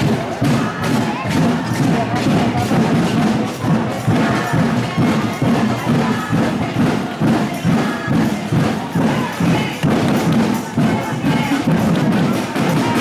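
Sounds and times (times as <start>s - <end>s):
music with percussive beat: 0.0s - 13.0s.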